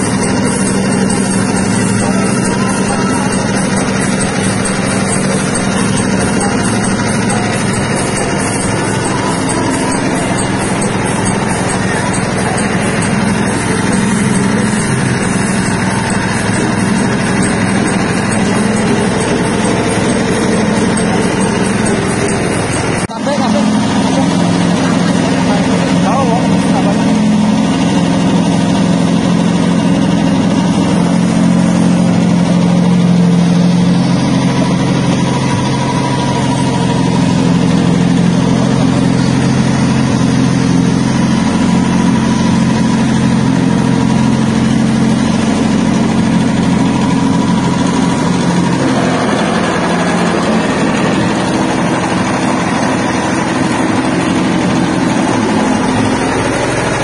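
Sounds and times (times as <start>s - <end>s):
machine motor droning: 0.0s - 57.0s.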